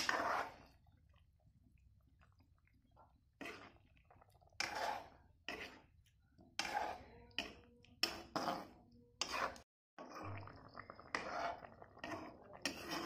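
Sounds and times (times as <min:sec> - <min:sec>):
spatula scraping a pan: 0:00.0 - 0:00.9, 0:03.2 - 0:13.0.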